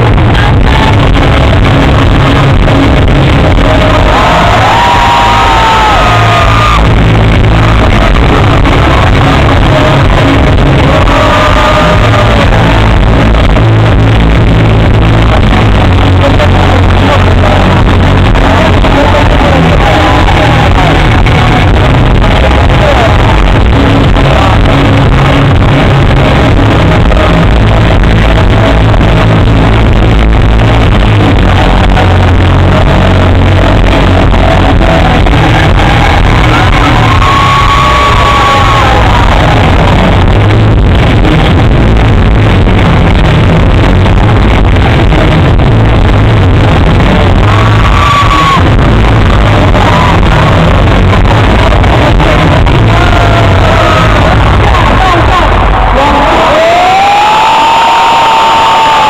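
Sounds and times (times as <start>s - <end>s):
loud music over sound system: 0.0s - 59.0s.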